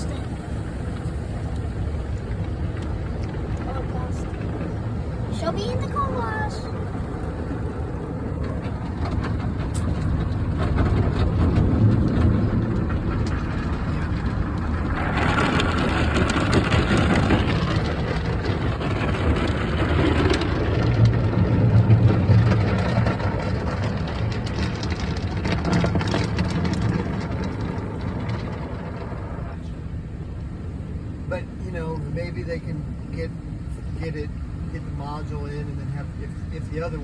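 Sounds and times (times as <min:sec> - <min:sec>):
car wash machinery rumble: 0:00.0 - 0:37.0.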